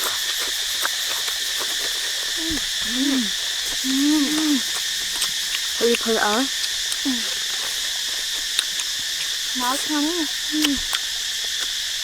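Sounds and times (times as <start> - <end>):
crickets chirping: 0.0 - 12.0
low hoot-like hums: 1.2 - 12.0.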